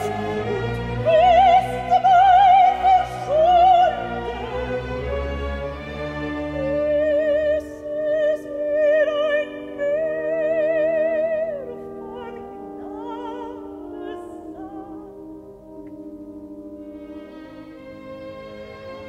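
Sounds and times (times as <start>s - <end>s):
operatic soprano singing: 0.0s - 15.8s
orchestra strings: 0.0s - 19.0s.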